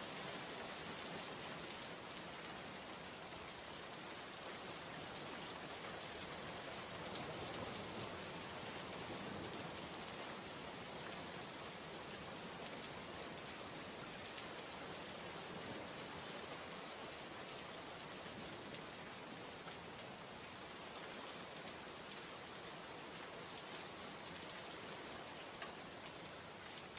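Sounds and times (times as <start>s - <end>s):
patter of raindrops: 0.0s - 26.9s
steady rain hiss: 0.0s - 26.9s.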